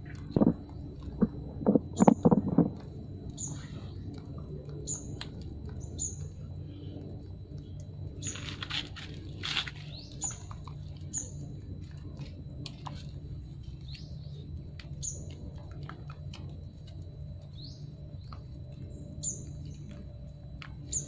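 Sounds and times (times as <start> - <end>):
small birds chirping: 0.0 - 2.4, 3.3 - 4.1, 4.7 - 20.1, 20.7 - 21.0
steady low hum: 0.0 - 21.0.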